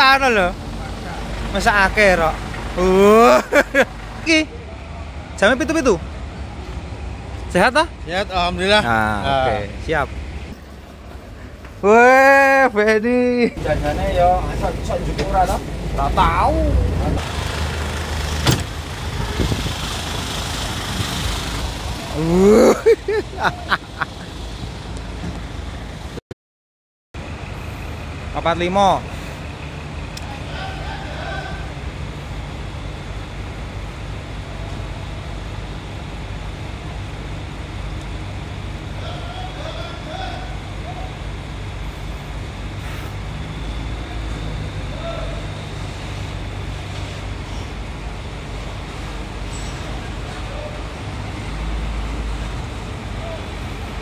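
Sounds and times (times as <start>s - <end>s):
bus engine idling: 0.0s - 26.2s, 27.2s - 54.0s.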